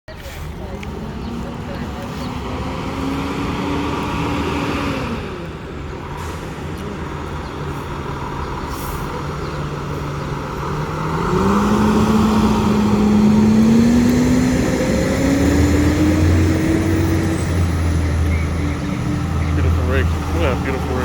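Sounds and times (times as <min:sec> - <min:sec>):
diesel engine revving: 0:00.1 - 0:21.0.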